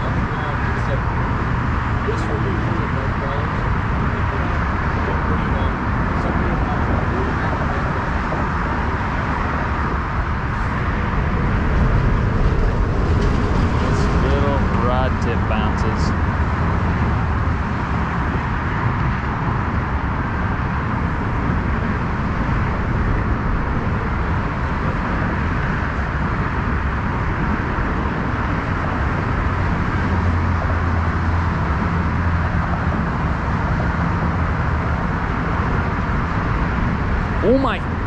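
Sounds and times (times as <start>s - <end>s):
low rumble: 0.0s - 38.0s
steady rushing noise: 0.0s - 38.0s.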